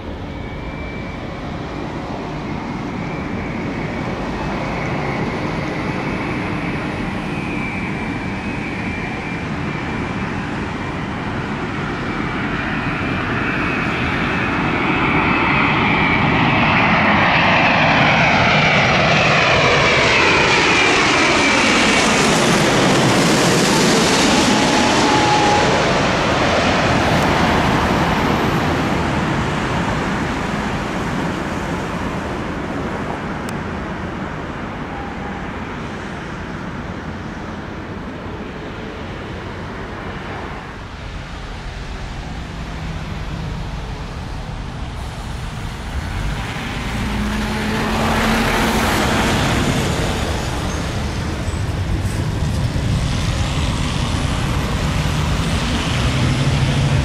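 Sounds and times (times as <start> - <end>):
jet engines passing overhead: 0.0 - 57.0.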